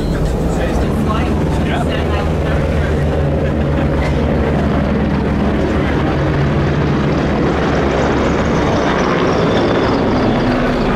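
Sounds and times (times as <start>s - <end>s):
helicopter flying: 0.0s - 10.9s.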